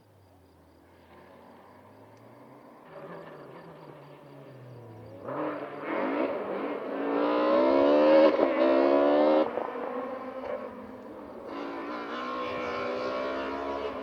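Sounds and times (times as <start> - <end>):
rally car engine at full throttle: 0.8 - 14.0.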